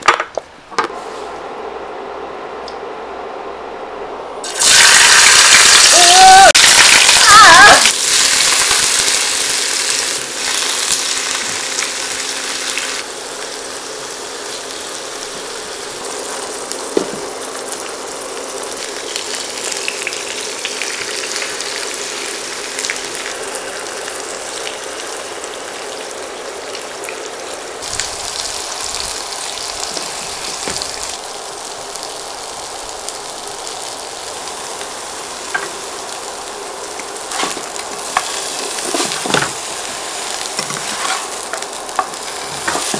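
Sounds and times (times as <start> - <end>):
tofu sizzling in hot oil: 4.4 - 16.9, 17.5 - 42.9.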